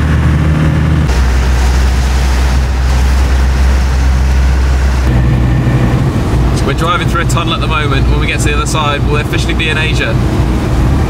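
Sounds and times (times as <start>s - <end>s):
engine and road noise drone: 0.0s - 11.0s.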